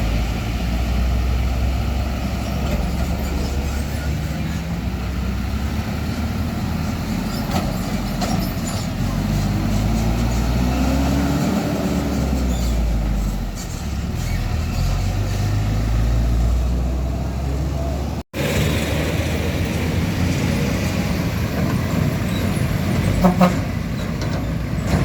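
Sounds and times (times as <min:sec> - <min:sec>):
heavy truck diesel engines: 0:00.0 - 0:25.0
truck tyre road noise: 0:00.0 - 0:25.0.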